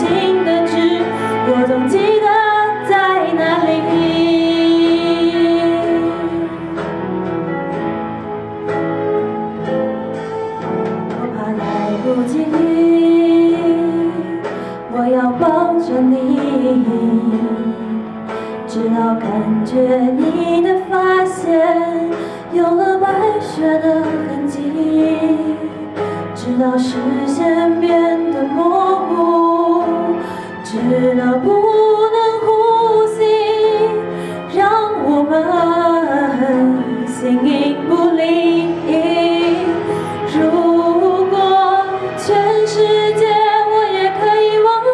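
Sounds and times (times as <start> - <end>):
woman singing pop ballad: 0.0 - 6.8, 11.1 - 44.9
karaoke backing track: 0.0 - 44.9.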